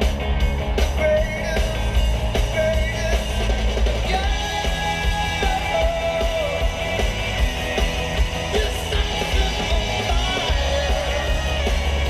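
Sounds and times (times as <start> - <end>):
heavy bass: 0.0 - 12.0
rock song on car stereo: 0.0 - 12.0.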